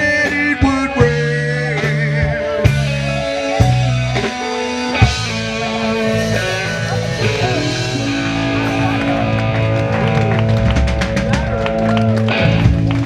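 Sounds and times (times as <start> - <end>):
live soul band playing: 0.0 - 13.0.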